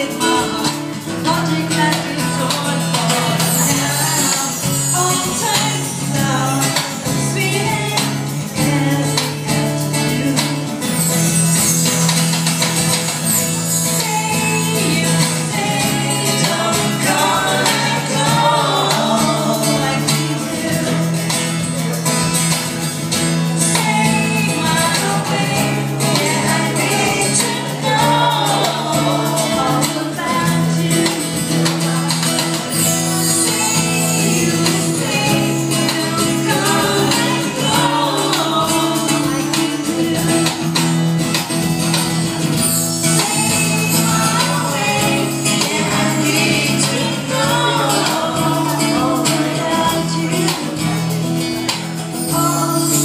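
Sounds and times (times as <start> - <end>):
woman singing into microphone: 0.0 - 11.9, 13.5 - 21.9, 23.4 - 41.1, 42.7 - 53.0
acoustic guitar: 0.0 - 53.0
percussion hits: 0.0 - 53.0.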